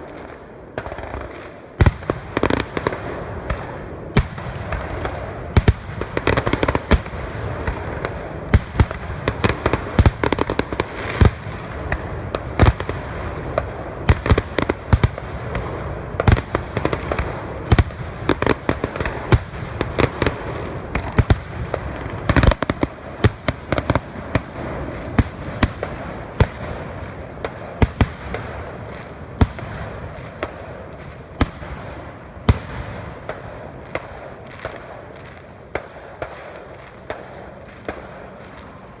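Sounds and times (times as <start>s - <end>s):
fireworks banging and crackling: 0.0s - 39.0s.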